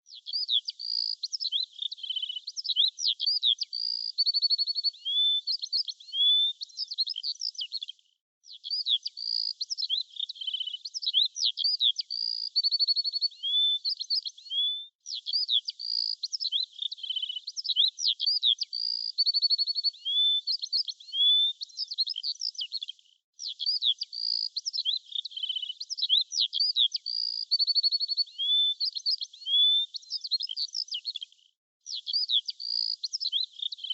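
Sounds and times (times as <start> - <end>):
birdsong chirps and trills: 0.0 - 33.9.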